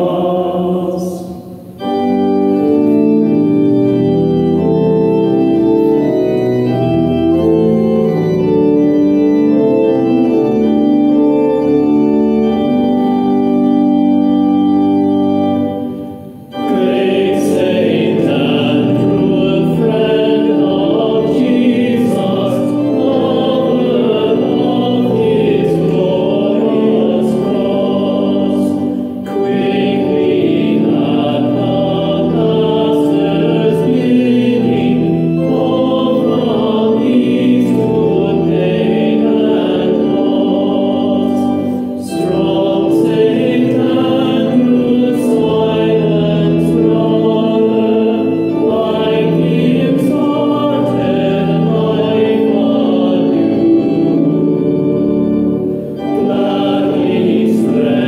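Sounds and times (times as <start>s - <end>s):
church organ playing chords: 0.0s - 58.0s
people singing a hymn: 0.0s - 58.0s.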